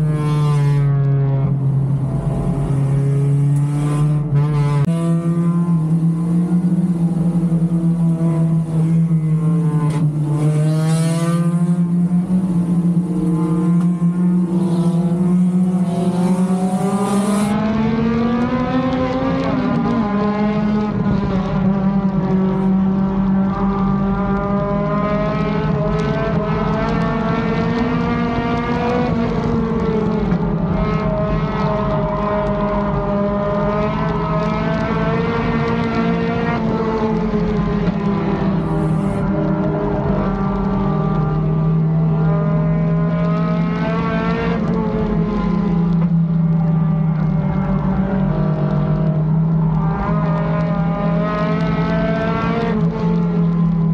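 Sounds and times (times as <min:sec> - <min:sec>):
race car engine running hard: 0:00.0 - 0:53.9.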